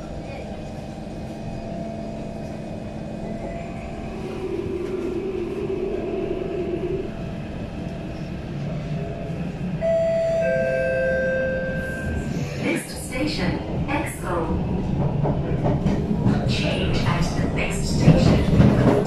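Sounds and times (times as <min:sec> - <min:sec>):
traction equipment hum: 0:00.7 - 0:19.0.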